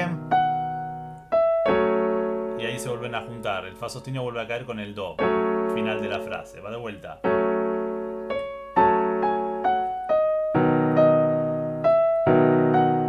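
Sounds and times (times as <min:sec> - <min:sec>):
slow piano phrase: 0:00.0 - 0:13.0.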